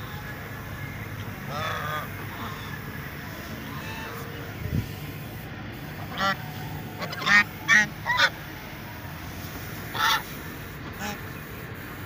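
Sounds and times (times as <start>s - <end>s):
geese honking: 0.0s - 4.6s, 5.2s - 8.6s, 9.6s - 11.4s.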